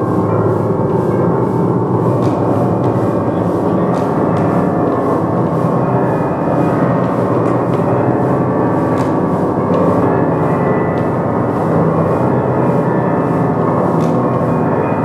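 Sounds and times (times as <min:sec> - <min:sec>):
gong-like metallic drone: 0:00.0 - 0:15.0.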